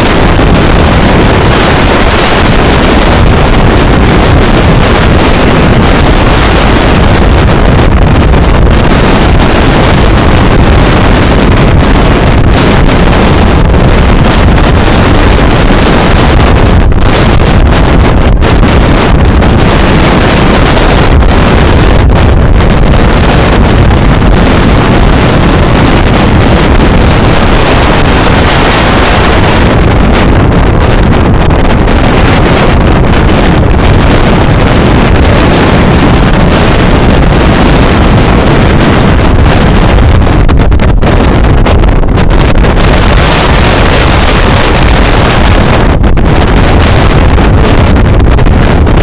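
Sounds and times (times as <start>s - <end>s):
storm wind blasting microphone: 0.0s - 49.0s.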